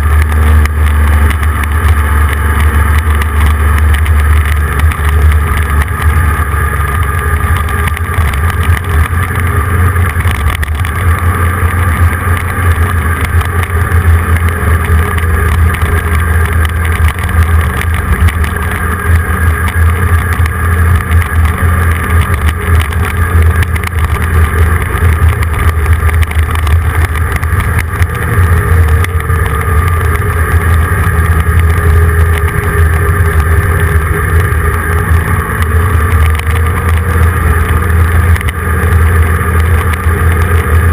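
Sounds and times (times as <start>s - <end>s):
vehicle engine and road rumble: 0.0s - 40.9s.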